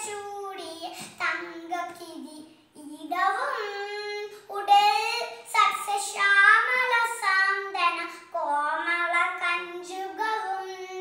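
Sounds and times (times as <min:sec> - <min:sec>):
girl singing unaccompanied: 0:00.0 - 0:11.0.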